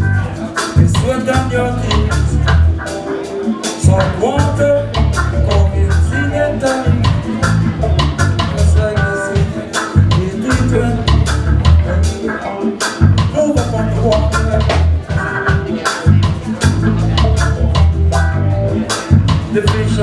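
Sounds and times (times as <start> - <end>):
electric bass line: 0.0 - 20.0
electric guitars: 0.0 - 20.0
keyboard: 0.0 - 20.0.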